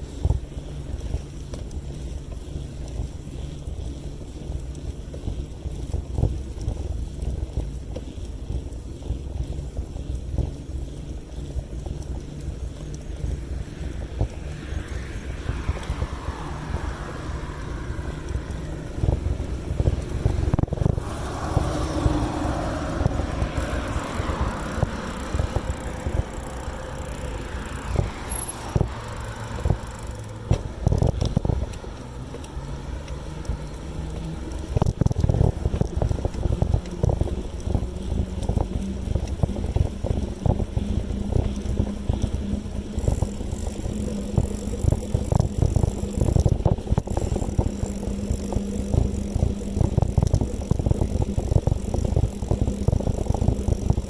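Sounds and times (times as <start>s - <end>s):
road rumble: 0.0s - 54.0s
wind buffeting microphone: 0.0s - 54.0s.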